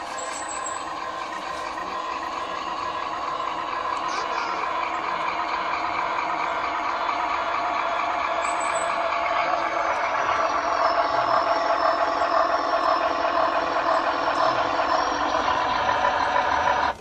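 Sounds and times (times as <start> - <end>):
model locomotive diesel engine sound: 0.0 - 17.0.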